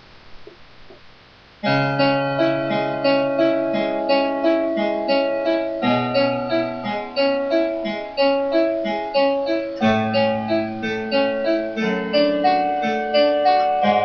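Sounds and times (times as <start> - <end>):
electronic keyboard playing: 1.6 - 14.0.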